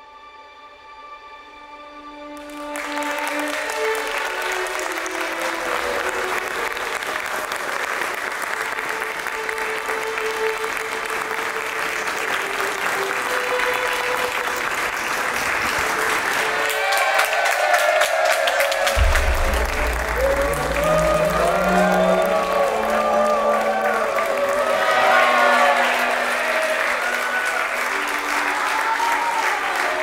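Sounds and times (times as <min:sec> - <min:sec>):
crowd applauding: 0:02.2 - 0:30.0.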